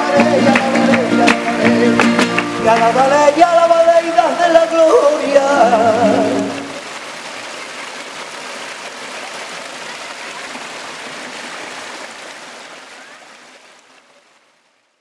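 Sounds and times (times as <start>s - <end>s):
waterfall rushing over stone: 0.0s - 14.9s.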